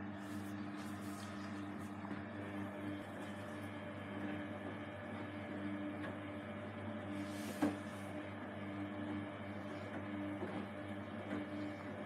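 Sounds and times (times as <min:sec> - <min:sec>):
washing machine drum humming: 0:00.0 - 0:12.0.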